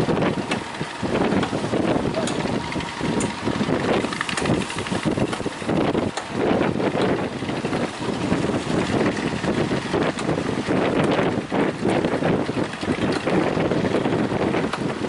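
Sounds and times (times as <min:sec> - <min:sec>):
speedboat engine running: 0:00.0 - 0:15.0
wind buffeting microphone: 0:00.0 - 0:15.0.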